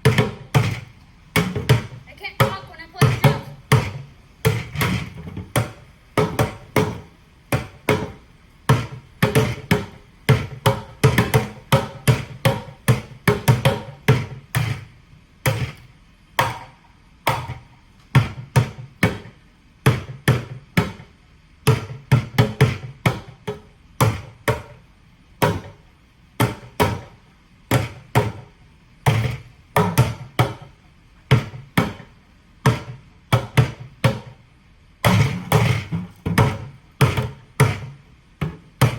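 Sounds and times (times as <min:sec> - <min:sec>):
plastic buckets drummed with sticks: 0:00.0 - 0:24.8, 0:25.4 - 0:34.4, 0:35.0 - 0:38.9.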